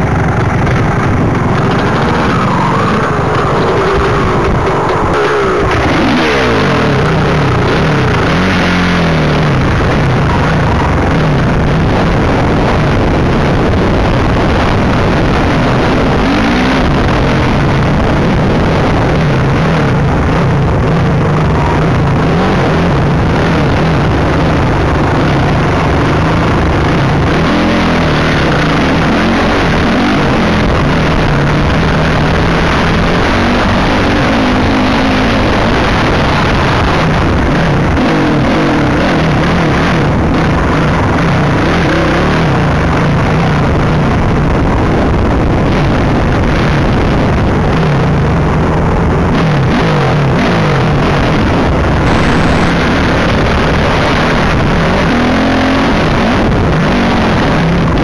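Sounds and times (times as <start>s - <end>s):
dirt bike engine: 0.0s - 58.0s
rough noise: 0.0s - 58.0s.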